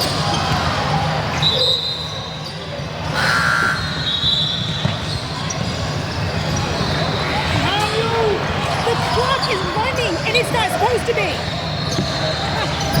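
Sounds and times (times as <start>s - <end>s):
gym hall noise: 0.0s - 13.0s.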